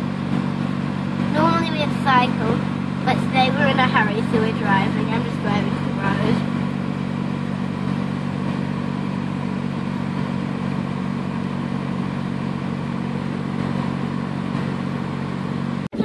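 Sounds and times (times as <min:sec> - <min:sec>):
car engine and road hum: 0:00.0 - 0:16.0.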